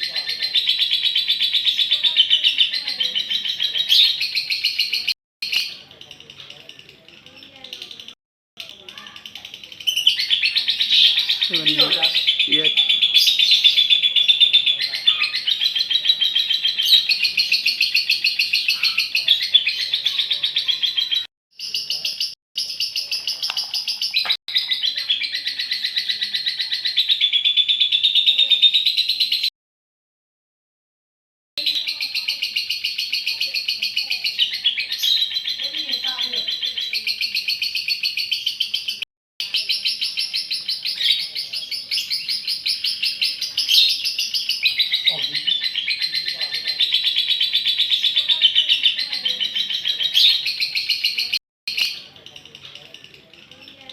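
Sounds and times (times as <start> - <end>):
lovebird chattering trill: 0.0 - 29.5, 31.6 - 53.9.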